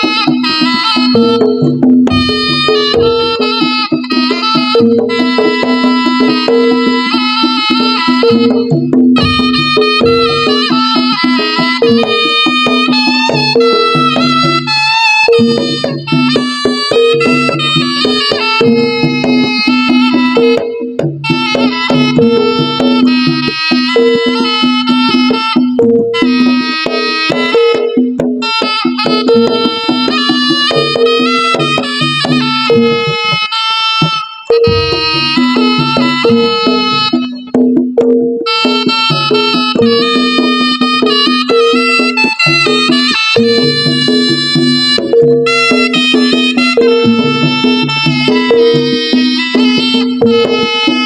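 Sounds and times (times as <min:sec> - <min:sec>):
drum strokes: 0:00.0 - 0:51.0
low gamelan pattern: 0:00.0 - 0:51.0
shrill reed pipe melody: 0:00.0 - 0:51.0.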